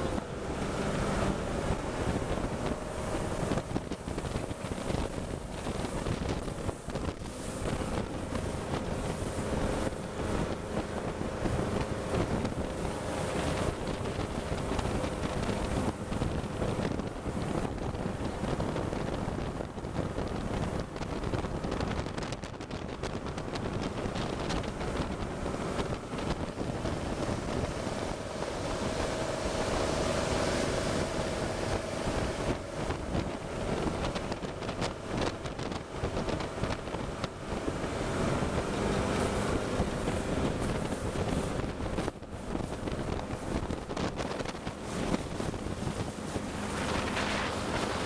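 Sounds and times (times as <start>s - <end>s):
boat engine running: 0.0s - 48.0s
water rushing and spraying: 0.0s - 48.0s
wind buffeting microphone: 0.0s - 48.0s.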